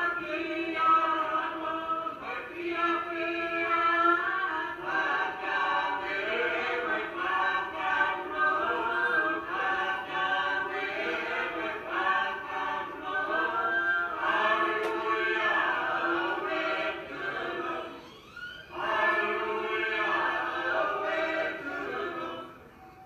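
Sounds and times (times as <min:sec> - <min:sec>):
choir singing a hymn: 0:00.0 - 0:22.7.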